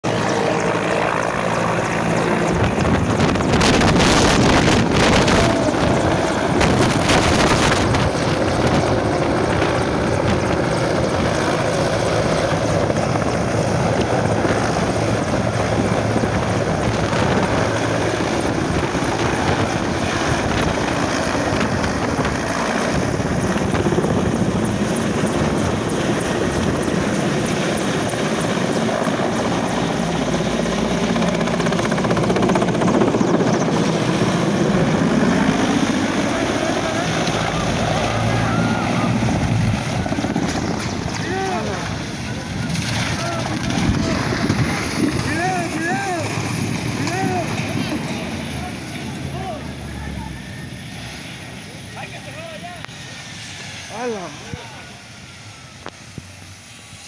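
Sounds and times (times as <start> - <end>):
helicopter flying overhead: 0.0 - 57.0
wind rumble on microphone: 1.9 - 49.1.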